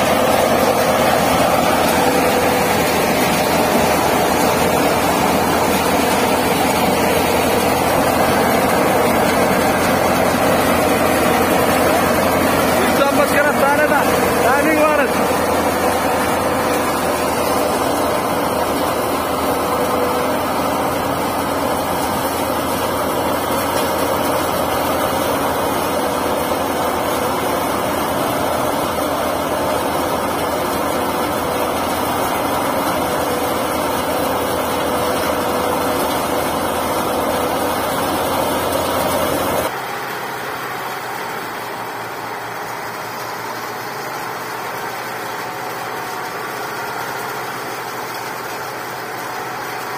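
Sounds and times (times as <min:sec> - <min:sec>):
threshing machine din: 0:00.0 - 0:49.9
tractor engine: 0:00.0 - 0:49.9.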